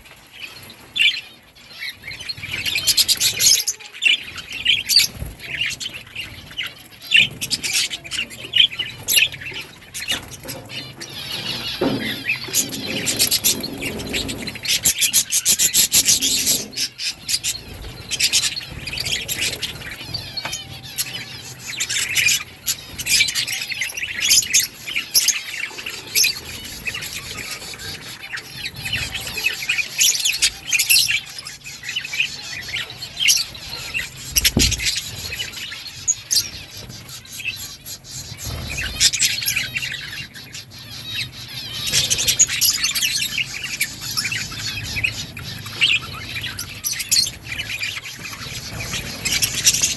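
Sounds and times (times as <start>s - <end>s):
budgerigars chattering: 0.0s - 49.9s.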